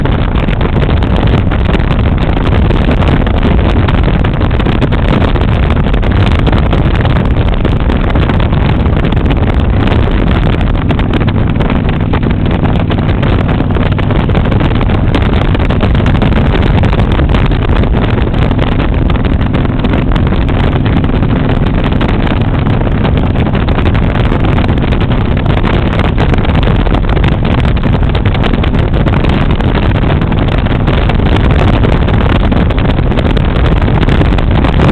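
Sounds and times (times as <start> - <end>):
motorcycle engine drone: 0.0 - 34.9
wind rush over microphone: 0.0 - 34.9.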